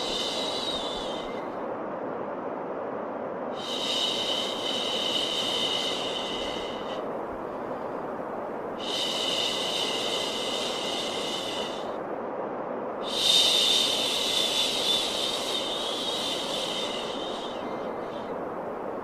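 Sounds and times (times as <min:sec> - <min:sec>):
steady white noise: 0:00.0 - 0:19.0.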